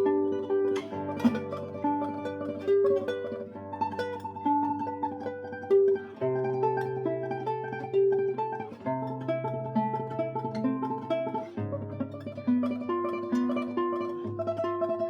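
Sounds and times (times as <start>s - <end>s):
classical guitar tremolo melody: 0.0s - 15.0s.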